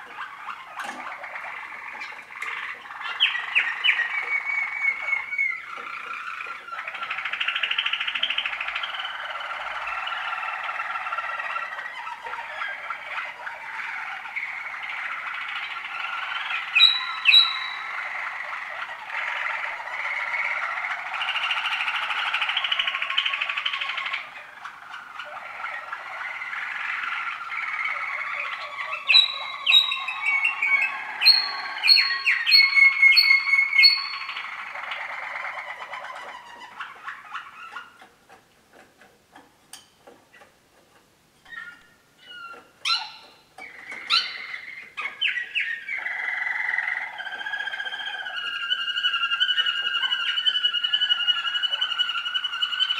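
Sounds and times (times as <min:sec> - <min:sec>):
canary song rolling and bubbling: 0:00.0 - 0:52.9.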